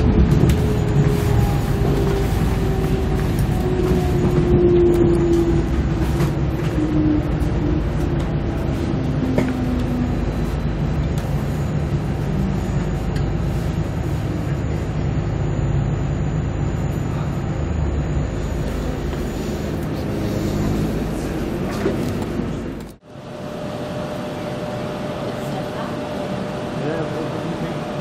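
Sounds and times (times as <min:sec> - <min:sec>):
train engine and wheels rumble: 0:00.0 - 0:28.0.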